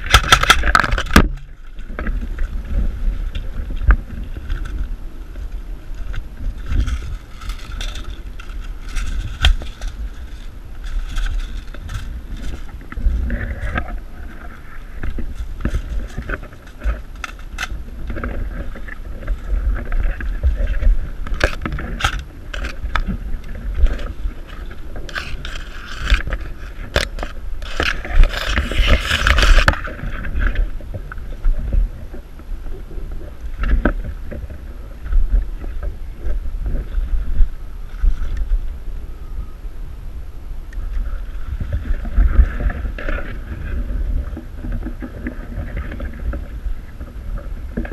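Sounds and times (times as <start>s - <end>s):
rustling handling noise: 0.0s - 38.8s
wind rumble on microphone: 0.0s - 47.9s.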